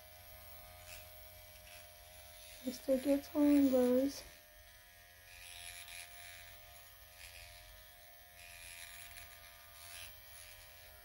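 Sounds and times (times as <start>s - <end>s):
electric pen buzzing faintly: 0.0s - 11.0s.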